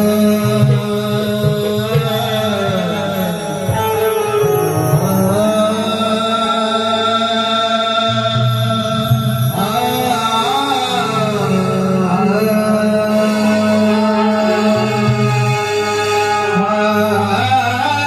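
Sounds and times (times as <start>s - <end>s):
instrumental accompaniment: 0.0s - 18.0s
man singing sliding notes: 0.0s - 18.0s.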